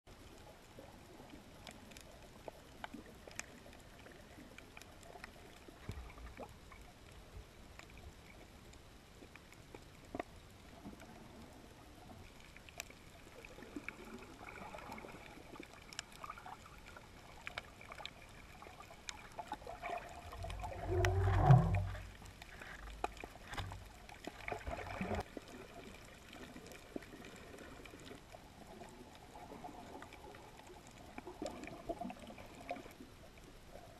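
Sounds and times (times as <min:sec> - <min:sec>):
low rumble of water: 0:00.1 - 0:33.9
underwater clicks and crackles: 0:00.1 - 0:33.9.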